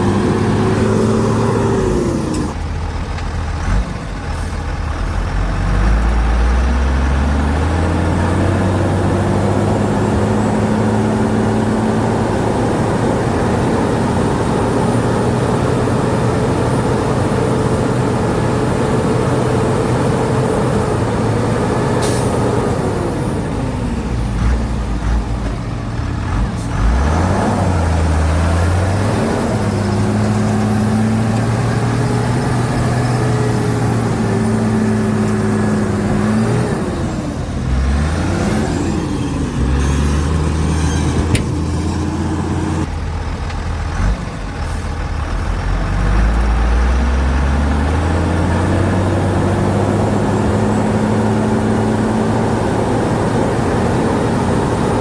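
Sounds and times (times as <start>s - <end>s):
bulldozer diesel engine running hard: 0.0s - 55.0s.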